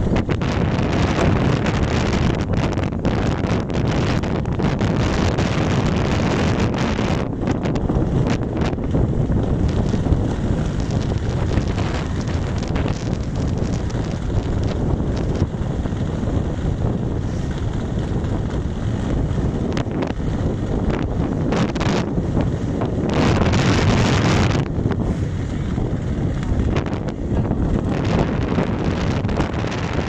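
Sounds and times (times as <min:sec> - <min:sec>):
hull rushing through water: 0:00.0 - 0:30.0
wind buffeting microphone: 0:00.0 - 0:30.0.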